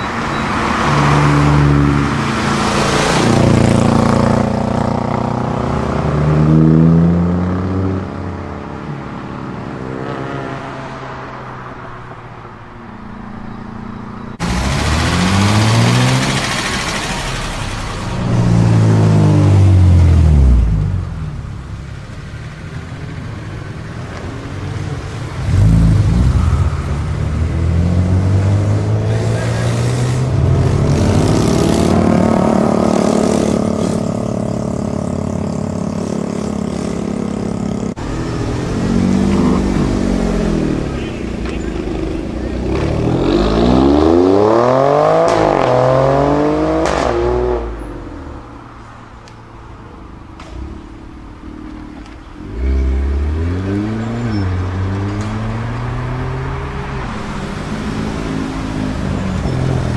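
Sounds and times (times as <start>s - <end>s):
car engines accelerating hard: 0.0s - 12.6s, 13.6s - 59.9s.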